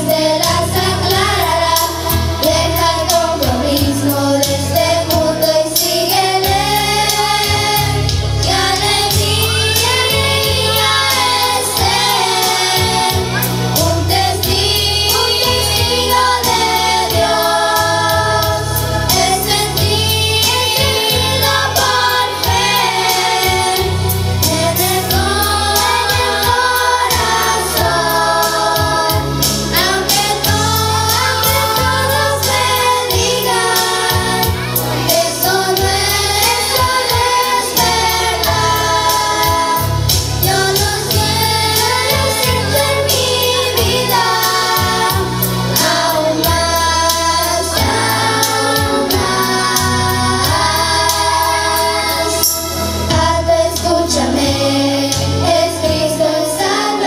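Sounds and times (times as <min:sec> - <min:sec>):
accompaniment with bass line: 0:00.0 - 0:57.0
choir singing: 0:00.0 - 0:57.0.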